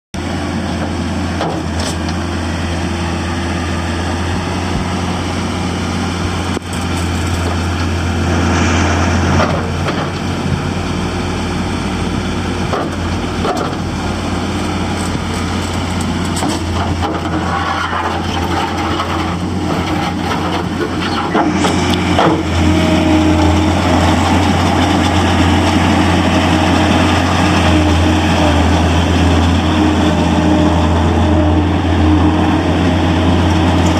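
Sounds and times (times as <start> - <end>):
diesel engine humming: 0.2 - 33.9.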